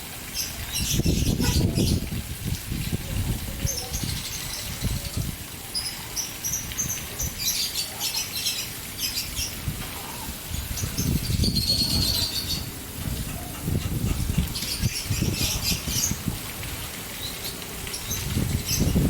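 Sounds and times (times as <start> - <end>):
water fountain splashing: 0.0 - 19.0
caged birds chirping: 0.3 - 19.0.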